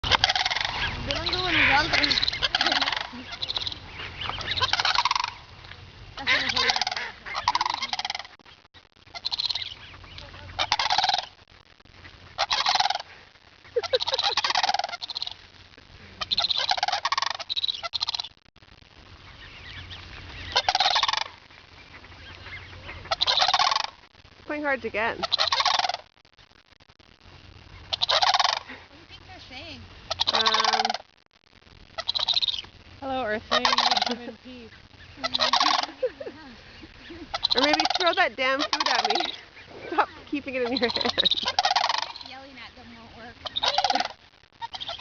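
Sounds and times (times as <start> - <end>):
large birds calling loudly: 0.0 - 18.4, 19.1 - 26.2, 27.5 - 31.1, 31.8 - 45.0.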